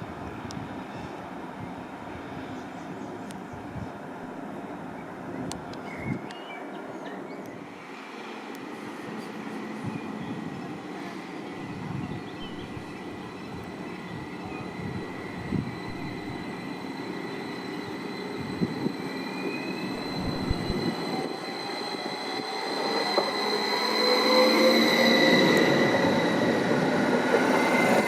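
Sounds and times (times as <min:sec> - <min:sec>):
train passing through station: 0:00.0 - 0:28.0.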